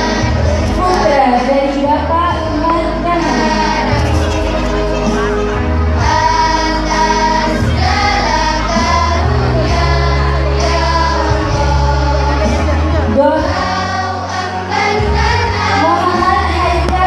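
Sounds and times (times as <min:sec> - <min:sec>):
choir singing a hymn: 0:00.0 - 0:17.0
low bass notes: 0:00.0 - 0:17.0.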